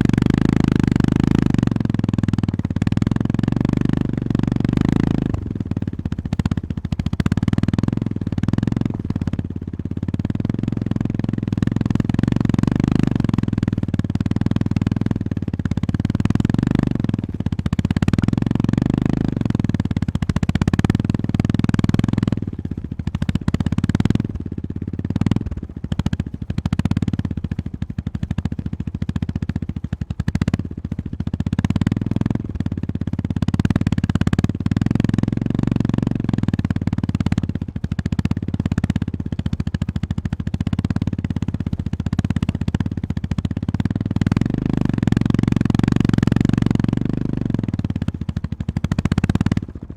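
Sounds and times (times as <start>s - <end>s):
motorcycle engine exhaust pulses: 0.0s - 49.9s.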